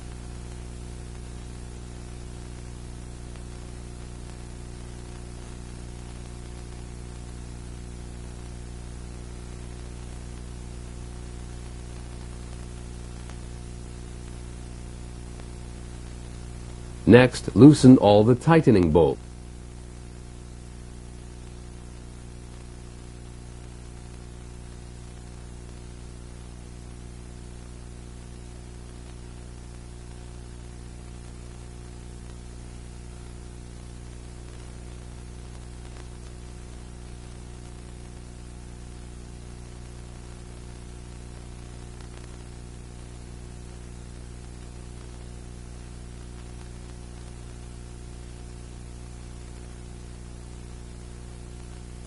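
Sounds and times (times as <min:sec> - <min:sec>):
low electrical hum: 0:00.0 - 0:52.0
steady hiss: 0:00.0 - 0:52.0.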